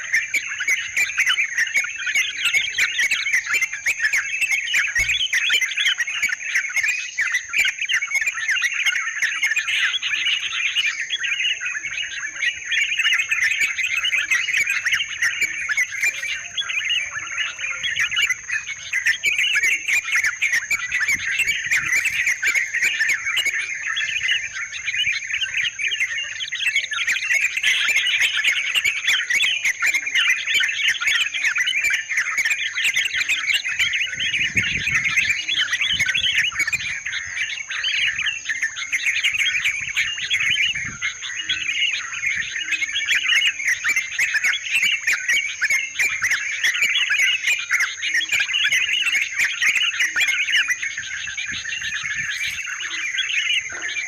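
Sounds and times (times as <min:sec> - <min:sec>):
bulbuls chattering chorus: 0:00.0 - 0:54.0.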